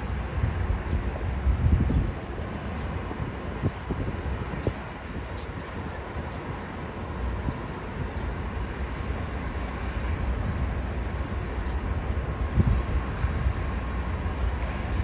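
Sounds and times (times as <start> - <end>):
diesel locomotive rumbling: 0.0 - 15.0
wind buffeting microphone: 0.0 - 15.0.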